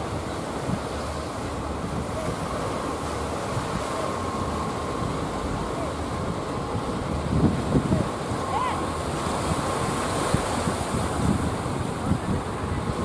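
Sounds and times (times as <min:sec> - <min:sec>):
small waves breaking: 0:00.0 - 0:13.0
wind buffeting microphone: 0:00.0 - 0:13.0.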